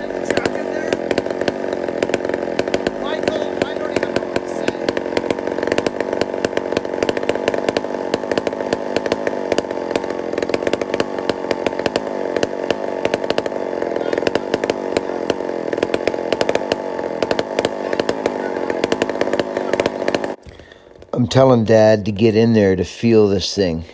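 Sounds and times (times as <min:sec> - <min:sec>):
chainsaw running steadily: 0:00.0 - 0:21.6.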